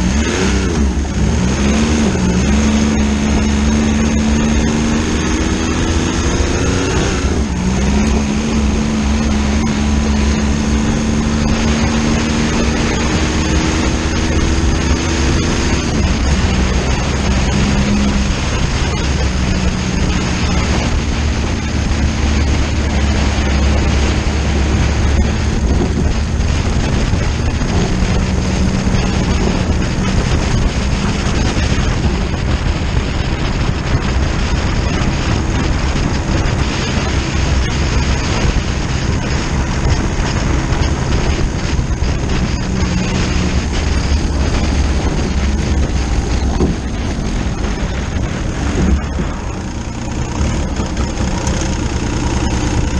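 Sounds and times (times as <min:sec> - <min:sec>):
diesel motorcycle engine running: 0:00.0 - 0:52.9
wind rushing over microphone: 0:00.0 - 0:52.9.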